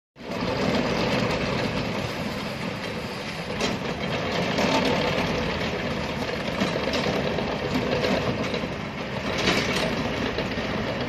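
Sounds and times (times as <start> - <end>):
diesel engine running: 0.2 - 11.0
excavator tracks clattering: 0.2 - 11.0.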